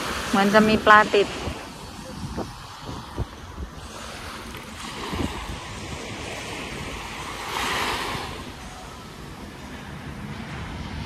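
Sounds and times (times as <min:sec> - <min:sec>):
small waves washing on shore: 0:00.0 - 0:11.0
wind rumbling on microphone: 0:00.0 - 0:11.0.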